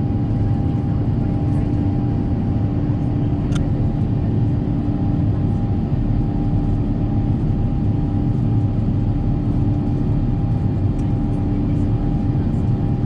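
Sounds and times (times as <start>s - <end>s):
low rumble of engines and airflow: 0.0s - 13.0s.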